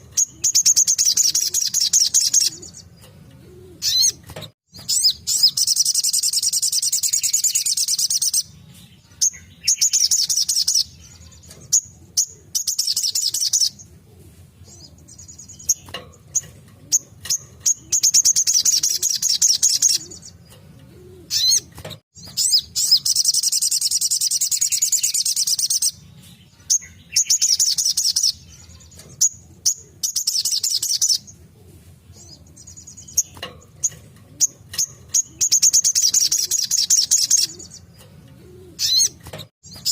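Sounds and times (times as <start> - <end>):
bird high-pitched rapid trills: 0.0 - 3.2, 3.8 - 13.8, 14.8 - 20.5, 22.2 - 31.2, 32.2 - 38.1.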